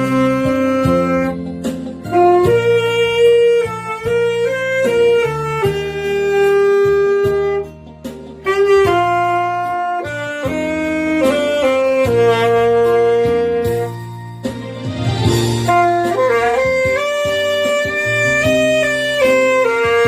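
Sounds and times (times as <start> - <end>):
saxophone slow melody: 0.0 - 20.0.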